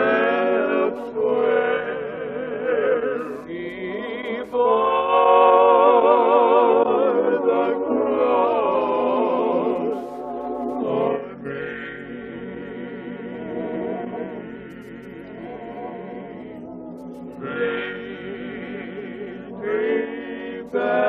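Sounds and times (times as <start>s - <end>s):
choir singing worship song: 0.0s - 21.0s.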